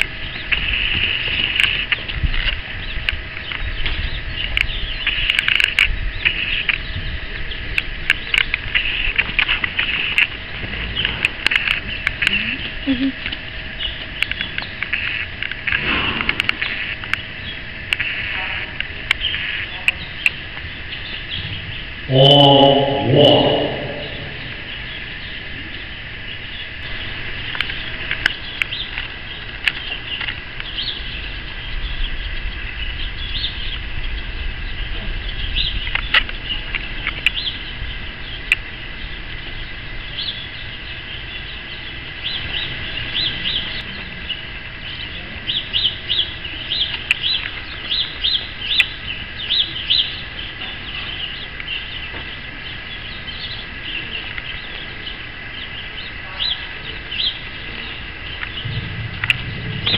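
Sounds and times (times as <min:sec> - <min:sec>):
small birds chirping: 0:00.0 - 0:59.9
steady high-pitched hum: 0:00.0 - 0:59.9.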